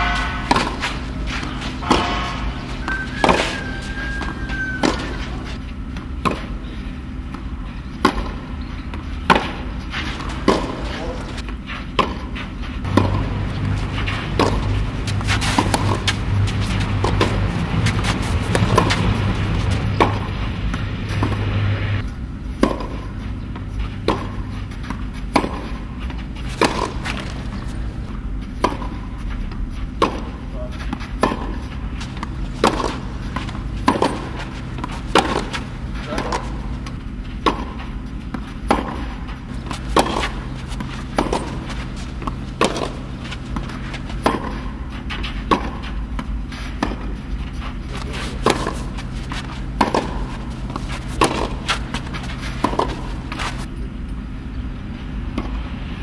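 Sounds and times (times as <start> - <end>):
tennis ball bounces: 0.0 - 54.3, 55.2 - 55.6
tennis balls struck by rackets: 0.0 - 55.7.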